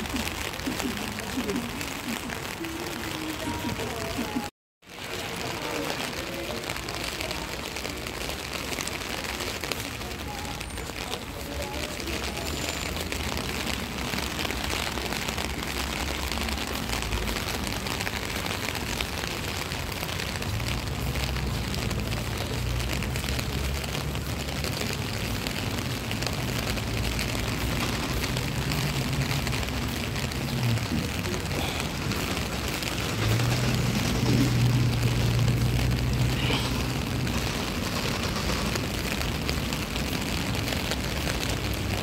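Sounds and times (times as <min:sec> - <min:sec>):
rain falling on wet paving: 0:00.0 - 0:42.0.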